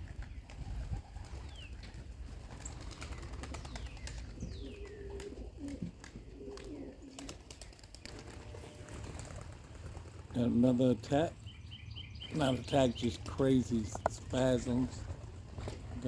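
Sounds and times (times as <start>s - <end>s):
pigeons cooing: 0.5s - 16.0s.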